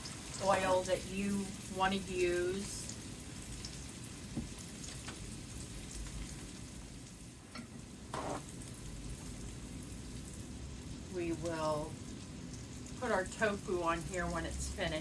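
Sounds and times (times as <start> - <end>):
tofu sizzling in oil: 0.0 - 15.0.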